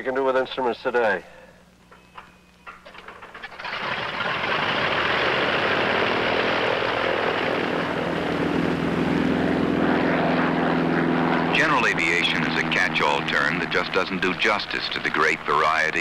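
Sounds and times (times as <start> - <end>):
propeller plane engine running: 1.7 - 16.0.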